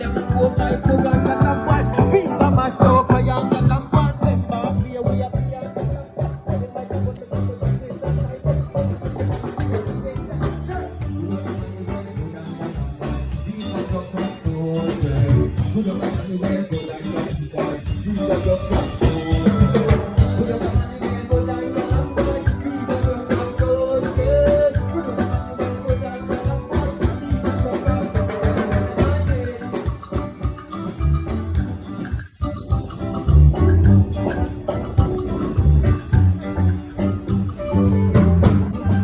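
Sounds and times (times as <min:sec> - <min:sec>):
live band instrumental music: 0:00.0 - 0:39.0.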